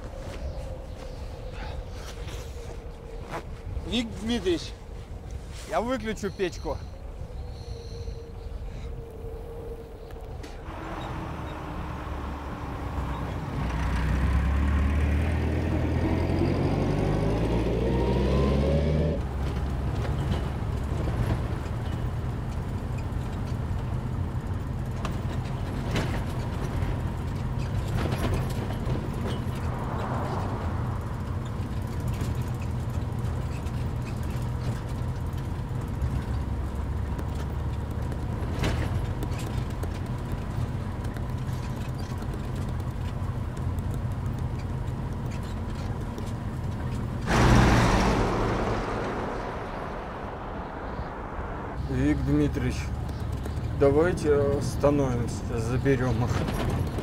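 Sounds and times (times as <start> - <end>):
van engine revving: 10.7 - 57.0.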